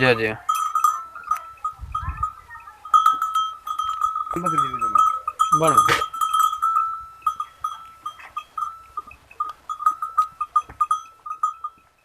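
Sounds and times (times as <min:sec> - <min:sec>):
goat bell clinking: 0:00.0 - 0:12.0.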